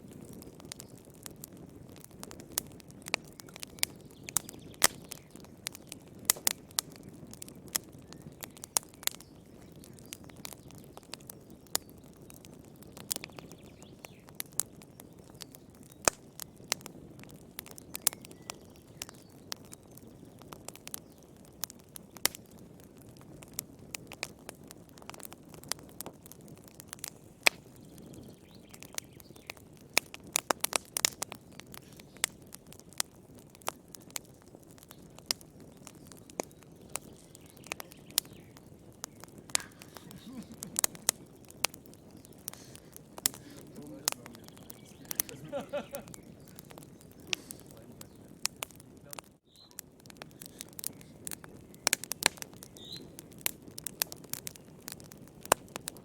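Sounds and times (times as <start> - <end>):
burning wood crackling and popping: 0.0 - 56.0
wood fire burning: 0.0 - 56.0.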